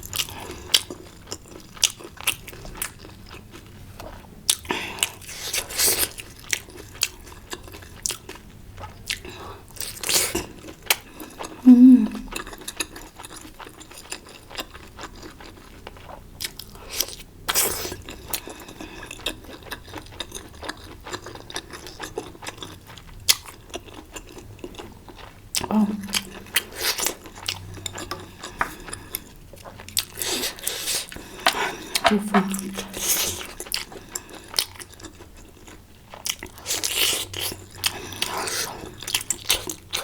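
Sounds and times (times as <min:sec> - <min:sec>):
chewing and biting food: 0:00.0 - 0:11.6, 0:12.3 - 0:40.0.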